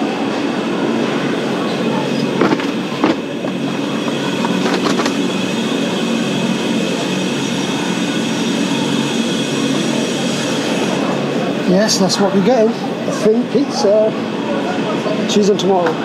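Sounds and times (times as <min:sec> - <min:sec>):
supermarket rumble and hum: 0:00.0 - 0:14.7.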